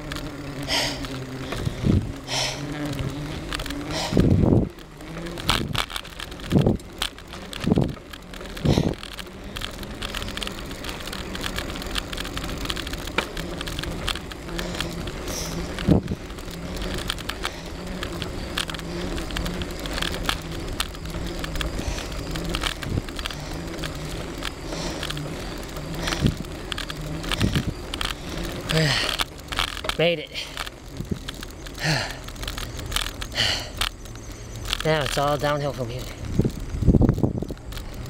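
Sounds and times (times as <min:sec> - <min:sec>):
bicycle tyre and drivetrain noise: 0:00.0 - 0:38.0
small clicks and rattles: 0:00.0 - 0:38.0.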